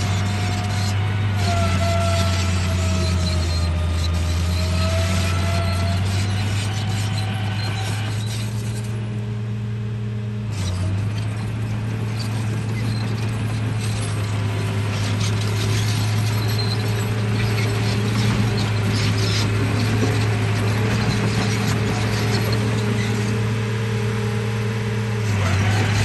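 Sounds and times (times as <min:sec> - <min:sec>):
gears and tracks rattling: 0:00.0 - 0:09.2, 0:10.5 - 0:23.6, 0:25.2 - 0:26.0.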